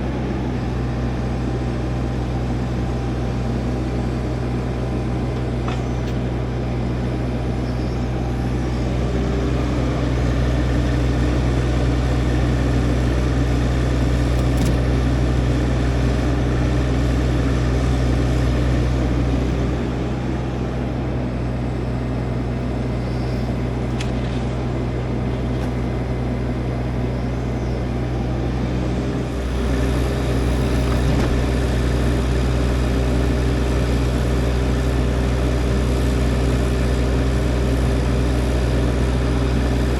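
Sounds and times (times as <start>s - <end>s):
low-pitched engine running: 0.0s - 39.9s.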